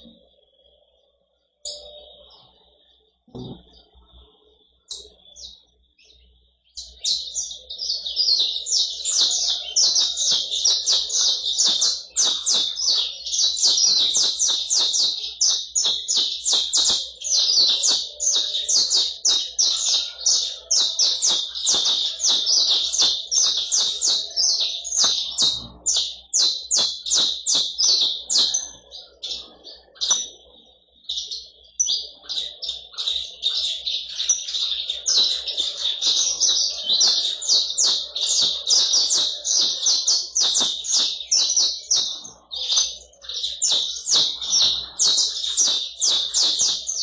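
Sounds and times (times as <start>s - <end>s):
finches singing: 0.0s - 47.0s.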